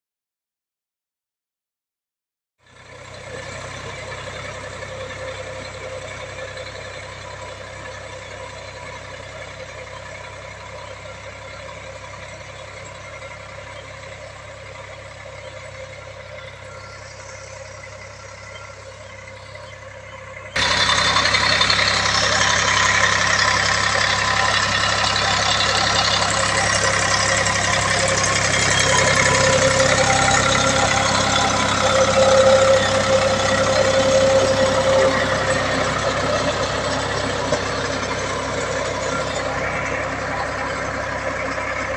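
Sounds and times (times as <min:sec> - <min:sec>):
tractor diesel engine running: 0:02.6 - 0:41.9.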